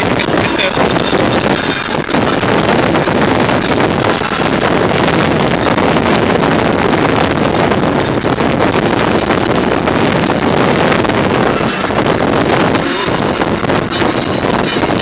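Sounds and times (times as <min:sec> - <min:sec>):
road and engine noise: 0:00.0 - 0:15.0
wind on microphone: 0:00.0 - 0:15.0.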